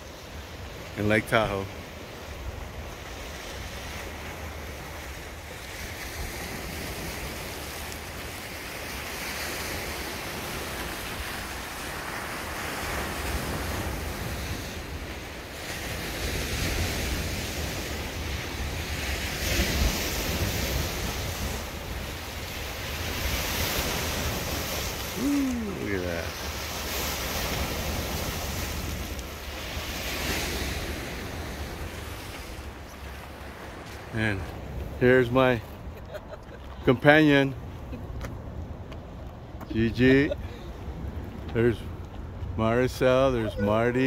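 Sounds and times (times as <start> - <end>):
waves breaking on rocky shore: 0.0 - 44.0.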